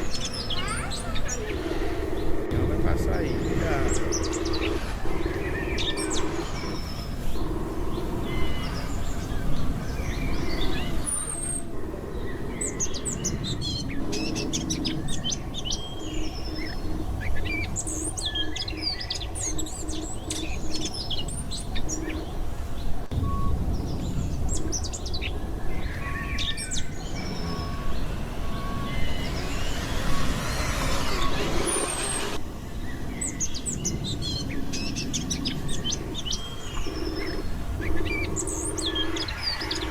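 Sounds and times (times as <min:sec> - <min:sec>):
small birds chirping and trilling: 0:00.0 - 0:39.9
steady low rumble: 0:00.0 - 0:39.9.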